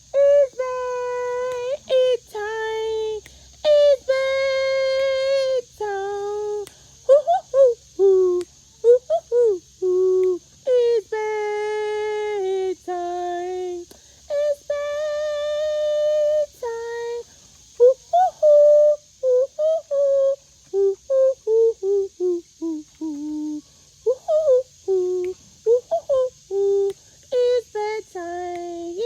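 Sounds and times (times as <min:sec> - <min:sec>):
woman singing wordless notes: 0:00.0 - 0:29.0.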